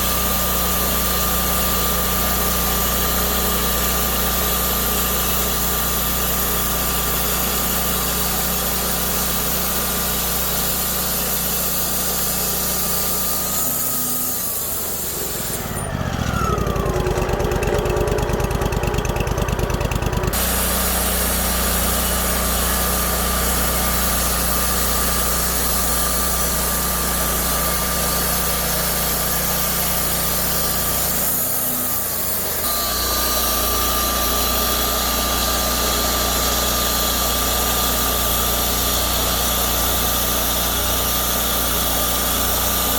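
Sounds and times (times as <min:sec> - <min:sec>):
band sawmill whining: 0:00.0 - 0:42.9.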